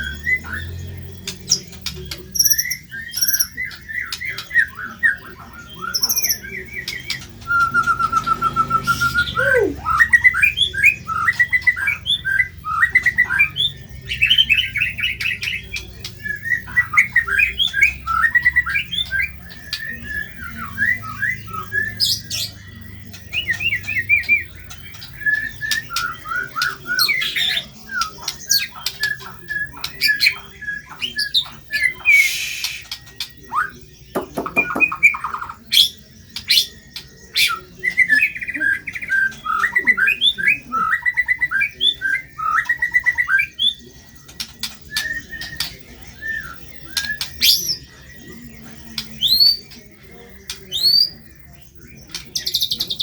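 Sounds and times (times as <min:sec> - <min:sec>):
songbird singing: 0:00.0 - 0:53.0.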